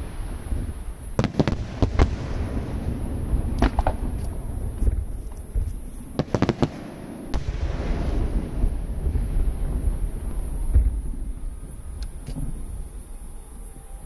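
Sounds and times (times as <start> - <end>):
firework shells bursting: 0.0 - 12.8.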